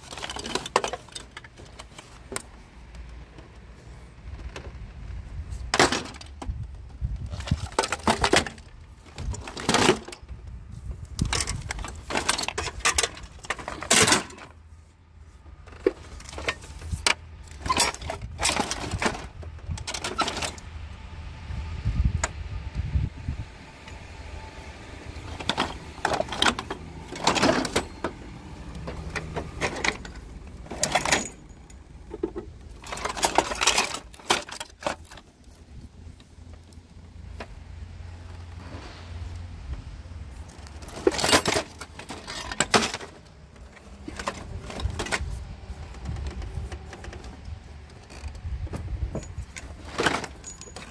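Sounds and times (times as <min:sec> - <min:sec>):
scrap metal clanking and rattling: 0:00.0 - 0:02.7, 0:04.4 - 0:14.8, 0:15.4 - 0:20.7, 0:25.0 - 0:36.7, 0:40.3 - 0:50.9.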